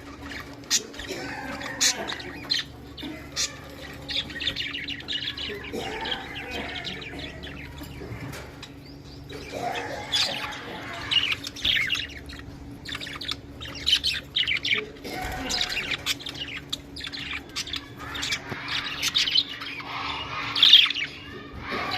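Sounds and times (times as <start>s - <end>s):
budgerigars chirping: 0.0s - 21.9s.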